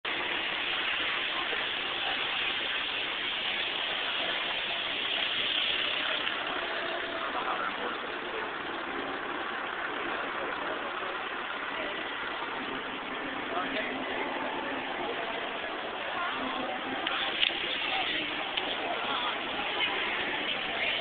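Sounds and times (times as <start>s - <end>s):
crowd noise with indistinct voices: 0.0s - 21.0s
traffic: 0.0s - 21.0s.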